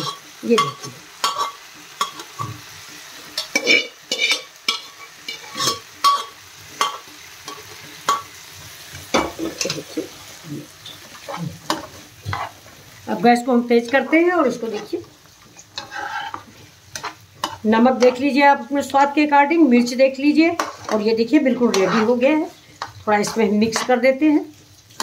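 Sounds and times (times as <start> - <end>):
spatula scraping frying pan: 0.0 - 13.0, 13.8 - 18.4, 20.4 - 24.1
faint sizzle: 0.0 - 25.0.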